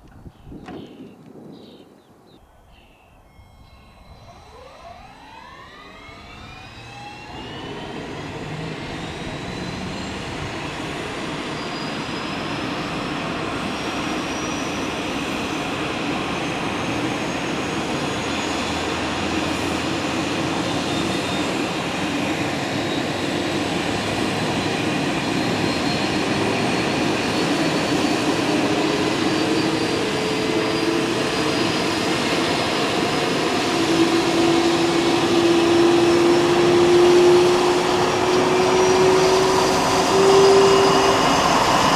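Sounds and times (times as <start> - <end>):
helicopter turbine whine: 0.0 - 41.9.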